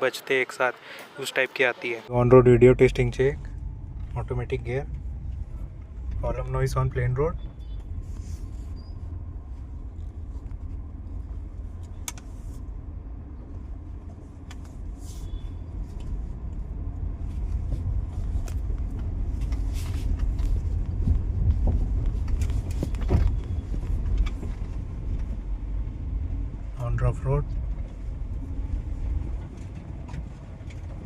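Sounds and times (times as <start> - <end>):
car road rumble: 2.0 - 31.0.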